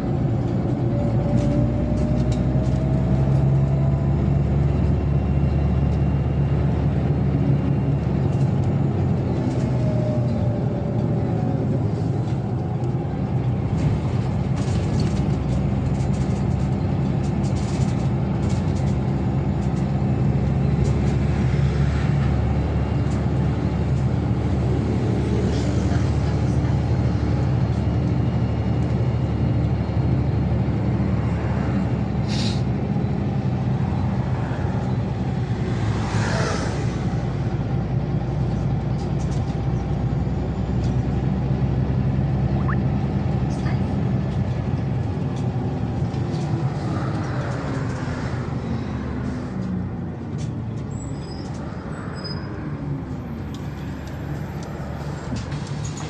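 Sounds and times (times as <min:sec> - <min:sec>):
bus engine and road drone: 0:00.0 - 0:56.0.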